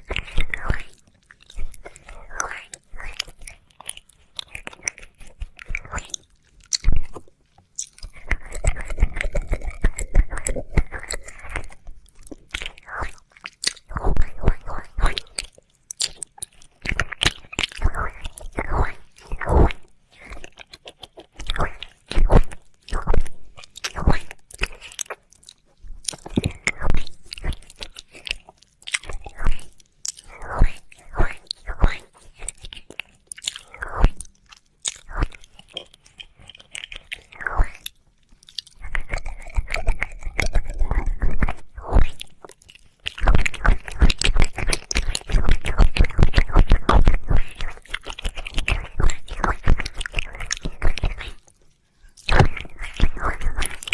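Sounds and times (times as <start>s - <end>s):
small wet mouth clicks: 0.0s - 53.9s
wet mouth licks and smacks: 0.0s - 53.9s.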